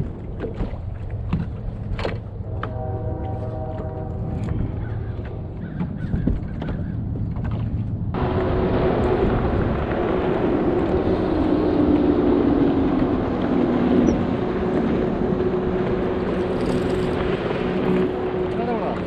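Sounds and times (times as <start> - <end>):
outboard engine running: 0.0 - 19.0
water and wind noise: 0.0 - 19.0.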